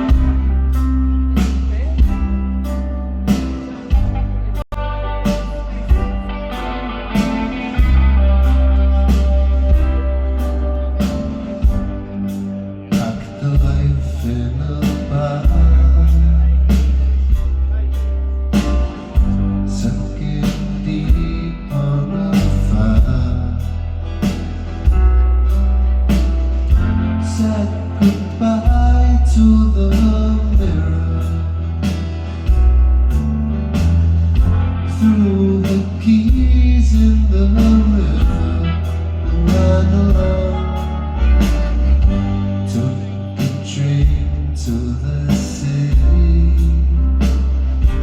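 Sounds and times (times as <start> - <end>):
man singing: 0.0 - 25.0, 26.7 - 33.2, 34.3 - 48.0
rock band playing: 0.0 - 48.0.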